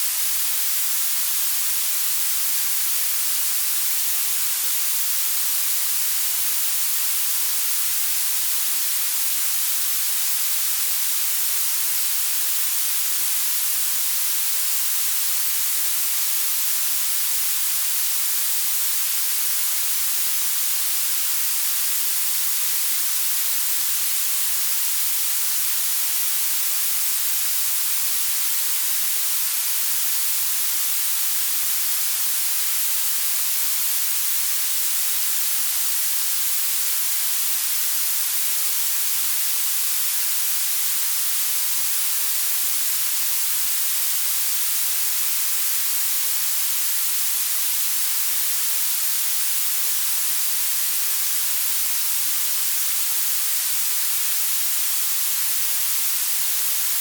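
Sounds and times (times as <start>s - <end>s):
bright steady hiss: 0.0s - 57.0s.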